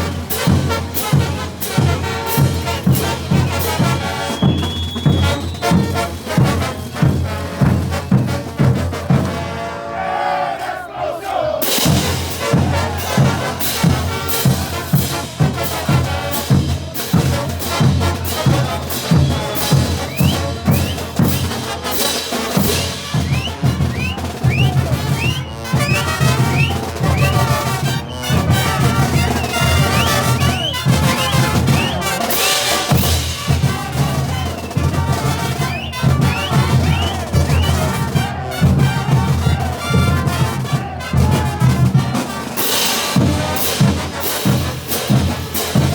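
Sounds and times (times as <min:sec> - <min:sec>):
bass drum and percussion beat: 0:00.0 - 0:09.6, 0:11.6 - 0:45.9
brass band playing: 0:00.0 - 0:45.9.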